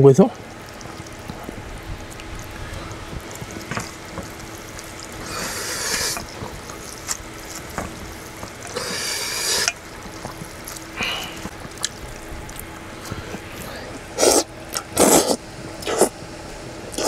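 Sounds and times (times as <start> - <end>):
wet squelching of noodles: 0.4 - 16.2.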